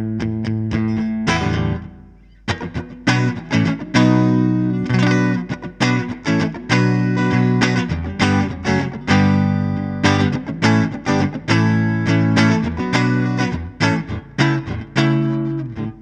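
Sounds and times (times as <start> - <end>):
electric guitar chord riff: 0.0 - 16.0.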